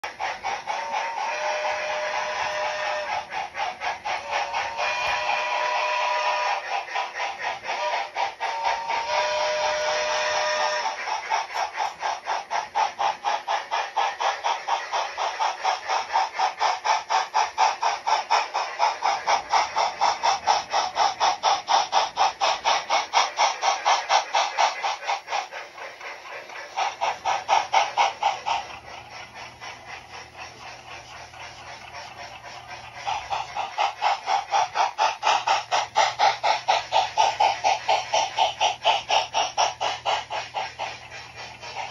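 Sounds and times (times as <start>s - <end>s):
model steam locomotive chuffing: 0.0s - 41.9s.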